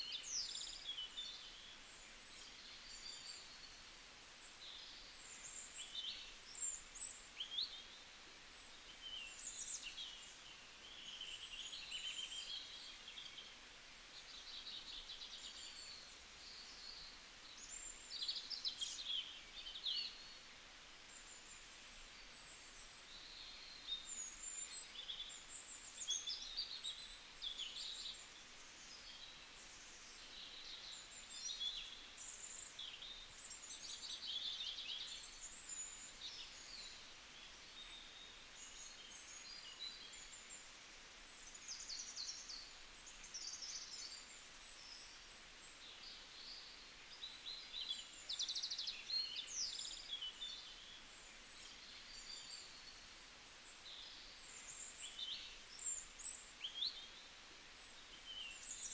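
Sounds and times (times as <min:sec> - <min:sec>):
faint steady background hiss: 0:00.0 - 0:58.9.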